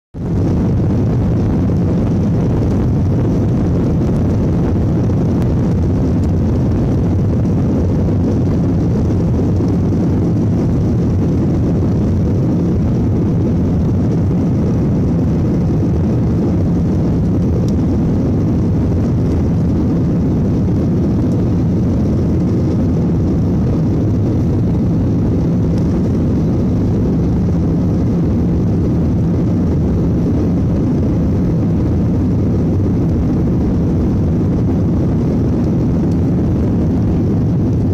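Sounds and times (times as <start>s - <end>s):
jet airliner rumble in cabin: 0.1s - 37.9s.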